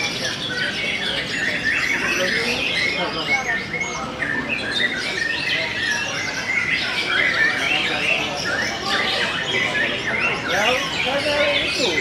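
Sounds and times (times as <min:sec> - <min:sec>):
birds singing in chorus: 0:00.0 - 0:12.0
crowd voices: 0:00.0 - 0:12.0.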